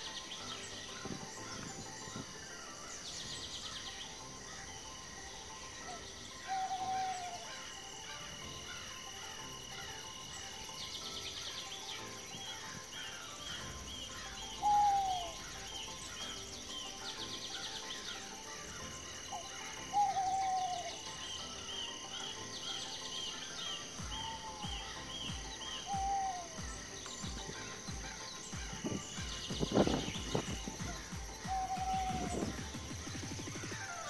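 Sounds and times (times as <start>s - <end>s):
birds calling: 0.0s - 34.0s
high insect drone: 0.0s - 34.0s
rapid bird trilling: 0.0s - 34.0s.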